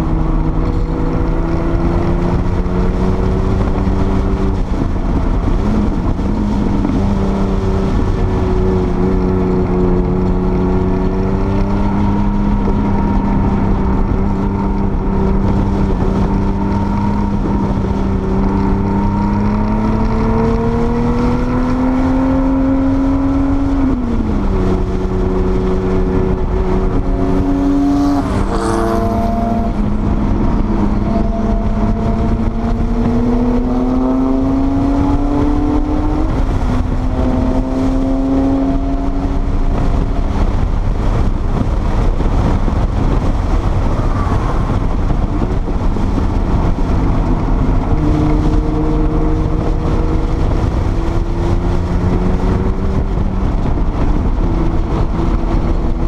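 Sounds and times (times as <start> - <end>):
car engine pulling hard: 0.0 - 56.0.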